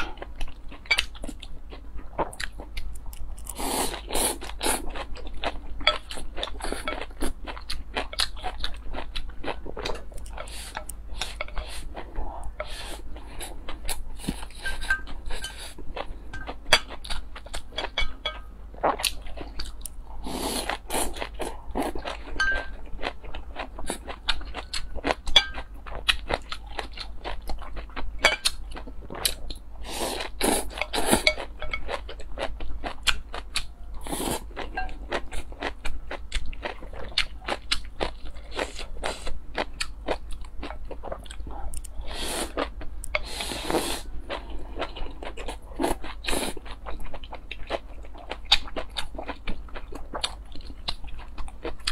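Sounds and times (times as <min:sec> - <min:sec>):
food crunching: 0:00.0 - 0:51.9
person chewing food: 0:00.0 - 0:51.9.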